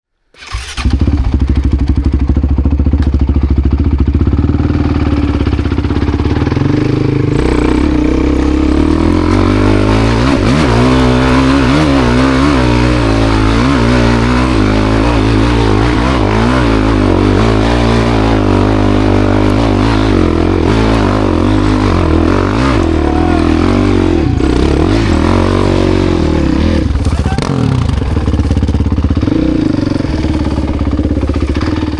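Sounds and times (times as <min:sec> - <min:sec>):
motorcycle engine revving: 0:00.4 - 0:31.9.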